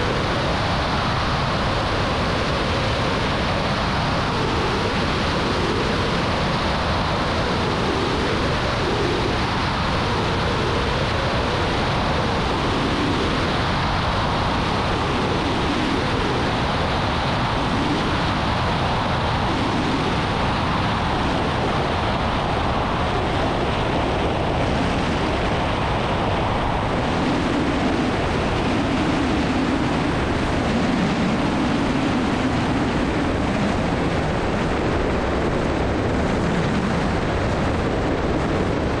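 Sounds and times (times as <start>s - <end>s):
airplane engine drone in cabin: 0.0s - 39.0s.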